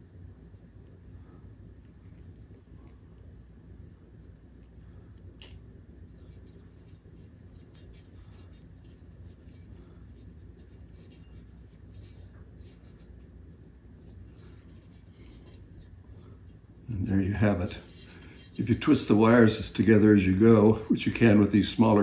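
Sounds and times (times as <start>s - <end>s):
low steady hum: 0.0s - 22.0s
wires twisting rustling: 0.0s - 22.0s.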